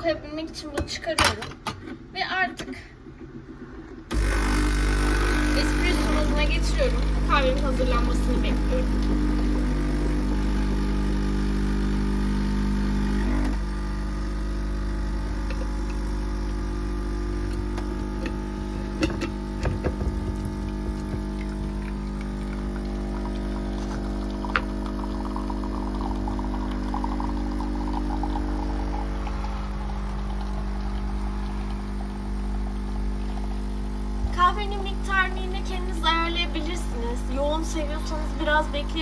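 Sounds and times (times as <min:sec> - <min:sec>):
espresso machine pump humming: 0:04.1 - 0:39.0.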